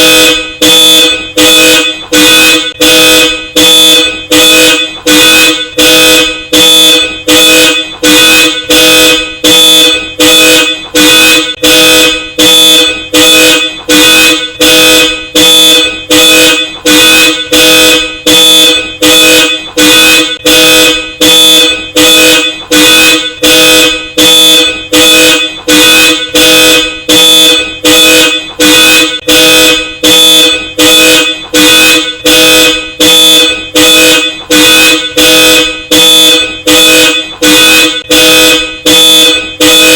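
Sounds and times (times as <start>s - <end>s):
car alarm horn honking: 0.0s - 39.9s.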